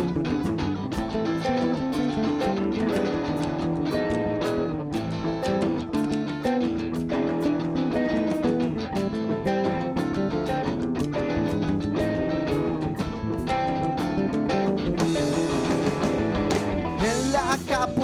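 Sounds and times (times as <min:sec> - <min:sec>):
lead guitar: 0:00.0 - 0:18.0
live band playing instrumental: 0:00.0 - 0:18.0.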